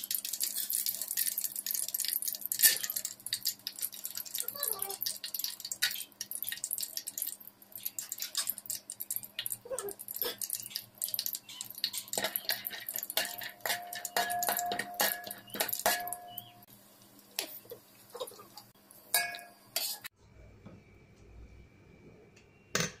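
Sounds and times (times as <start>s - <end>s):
nuts frying in oil crackling: 0.0s - 20.1s.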